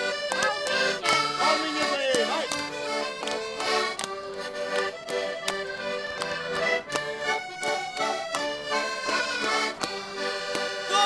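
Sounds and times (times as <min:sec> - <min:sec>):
concertinas playing dance tune: 0:00.0 - 0:11.0.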